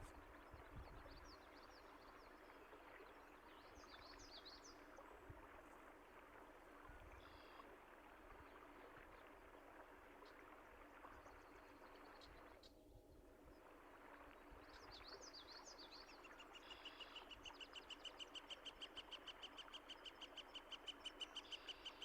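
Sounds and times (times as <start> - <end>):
stream flowing: 0.0 - 12.6, 13.2 - 22.0.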